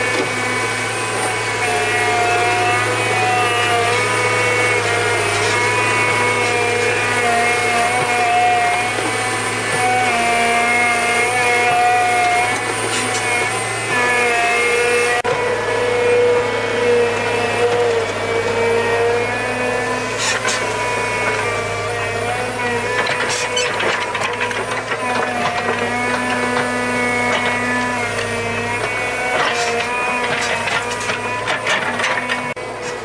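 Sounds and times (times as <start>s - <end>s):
small engine running at high speed: 0.0s - 33.0s.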